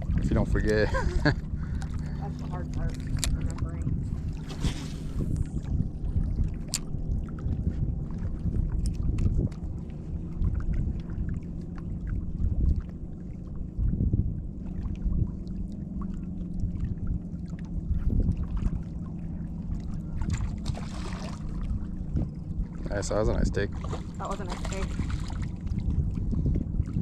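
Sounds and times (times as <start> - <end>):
wind noise on microphone: 0.0 - 27.0.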